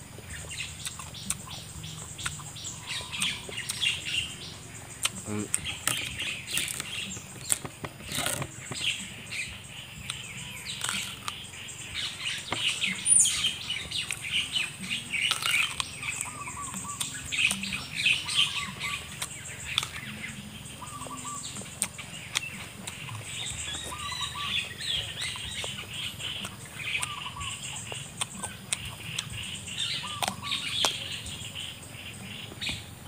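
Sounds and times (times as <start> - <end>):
birds chirping: 0.0 - 33.0
chewing crunchy banana: 0.0 - 33.0
warbling bird call: 0.4 - 32.9.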